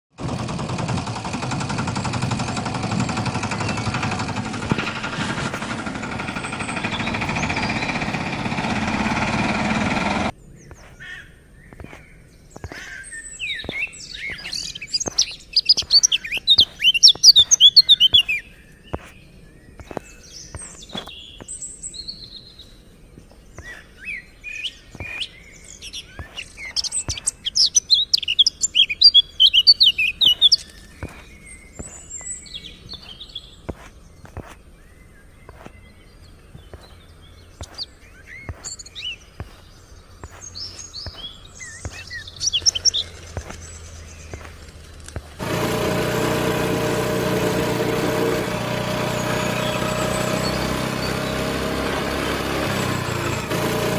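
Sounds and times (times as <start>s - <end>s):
birds chirping: 0.6s - 53.9s.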